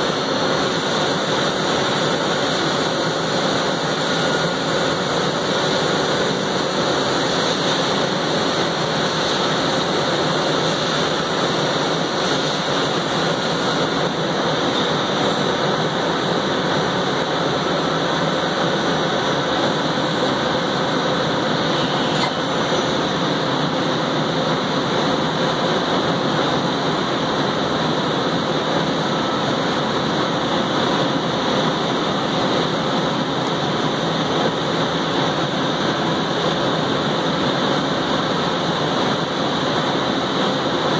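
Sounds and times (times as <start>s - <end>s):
machine running steadily: 0.0s - 40.9s.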